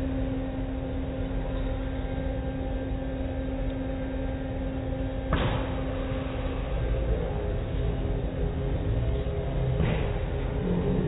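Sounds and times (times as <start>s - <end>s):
car wash machinery humming: 0.0s - 11.0s
constant tone: 0.0s - 11.0s.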